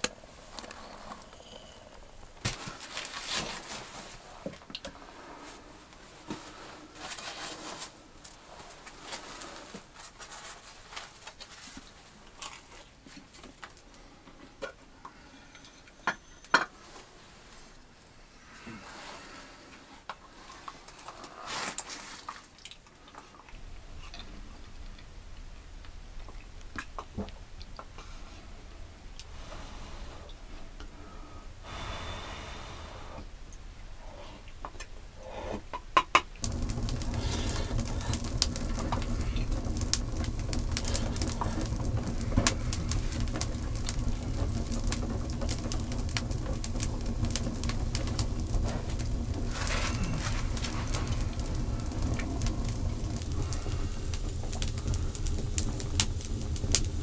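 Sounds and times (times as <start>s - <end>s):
low rumble of burning fire: 0.0s - 14.7s, 16.8s - 35.4s, 36.3s - 57.0s
wood fire crackling: 0.0s - 15.6s, 16.5s - 57.0s.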